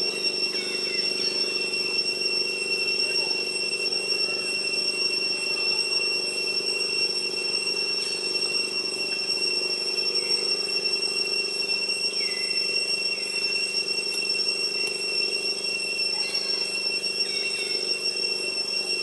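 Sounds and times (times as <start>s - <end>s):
forest insects droning: 0.0s - 19.0s.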